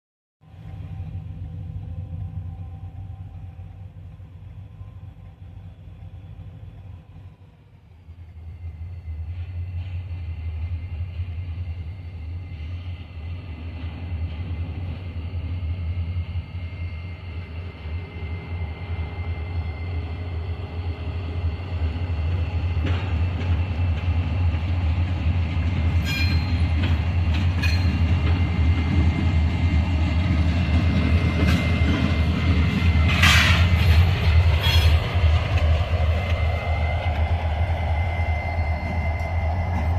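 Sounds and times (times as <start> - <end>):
high whine from train wheels: 0.4 - 39.9
train rumbling along rails: 0.4 - 39.9.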